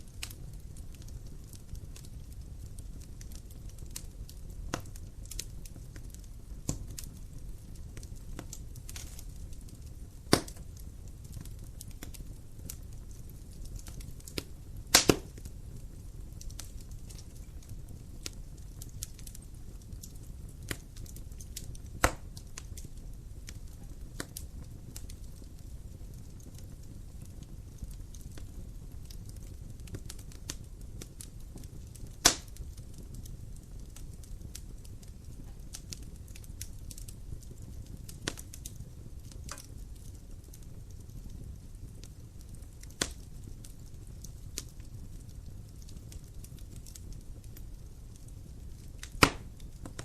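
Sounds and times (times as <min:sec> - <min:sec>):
firewood burning and crackling: 0:00.0 - 0:50.0
loud sharp pops of fire: 0:00.0 - 0:50.0.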